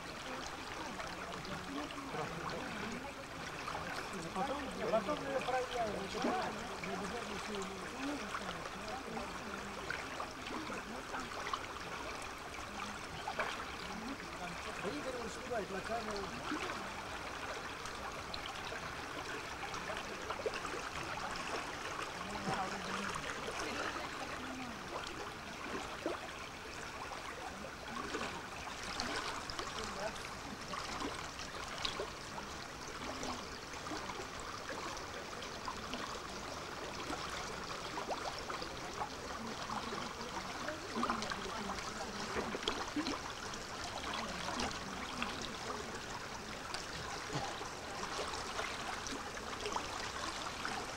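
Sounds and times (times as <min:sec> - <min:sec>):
river water flowing: 0:00.0 - 0:50.9.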